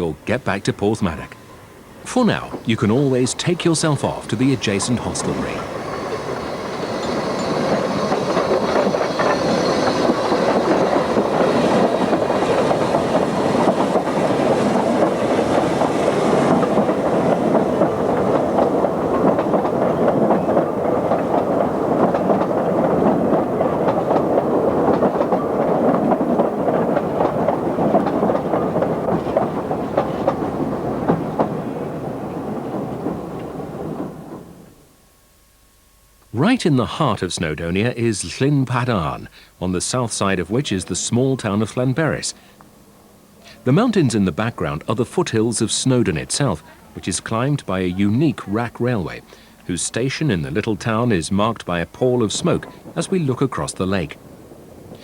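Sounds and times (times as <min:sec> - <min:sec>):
train rumbling: 0:00.0 - 0:35.0, 0:36.3 - 0:55.0
wheels clattering on rails: 0:02.1 - 0:34.8, 0:36.4 - 0:55.0.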